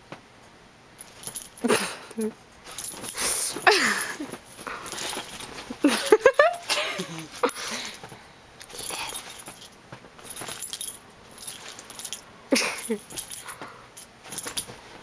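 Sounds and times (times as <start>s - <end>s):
sheets rustling: 1.0s - 1.7s, 2.5s - 12.2s, 12.9s - 15.0s
collar tags jingling: 1.0s - 14.8s.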